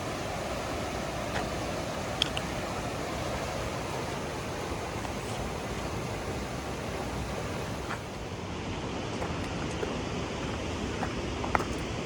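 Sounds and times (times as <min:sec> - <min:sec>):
creek water flowing: 0:00.0 - 0:11.5.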